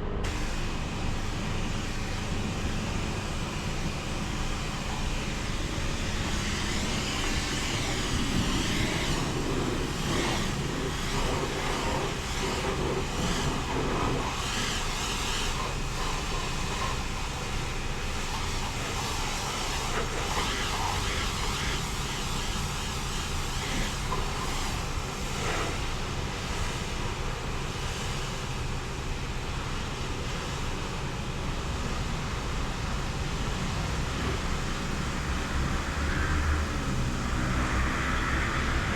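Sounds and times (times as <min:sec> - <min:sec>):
car wash machinery rumble: 0:00.0 - 0:38.9
water swishing and spraying: 0:00.3 - 0:28.4, 0:32.2 - 0:38.9.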